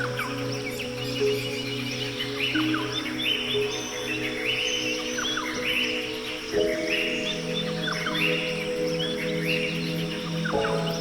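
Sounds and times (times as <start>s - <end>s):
birds chirping: 0.0s - 11.0s
soft ambient music: 0.0s - 11.0s.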